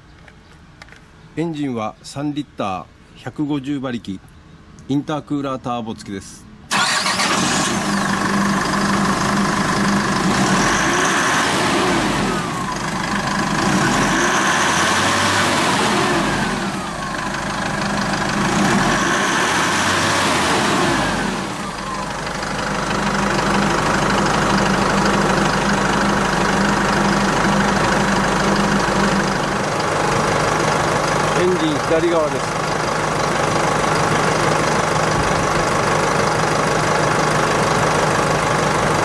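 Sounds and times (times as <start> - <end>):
truck diesel engine idling and revving: 6.7 - 39.0.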